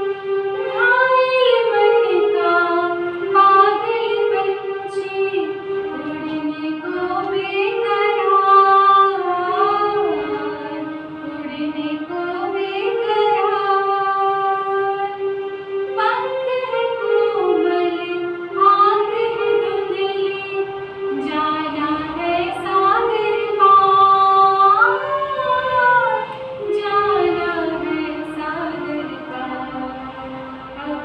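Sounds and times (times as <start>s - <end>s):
electronic keyboard: 0.0s - 31.0s
woman singing: 0.6s - 15.2s, 16.0s - 30.2s, 30.8s - 31.0s.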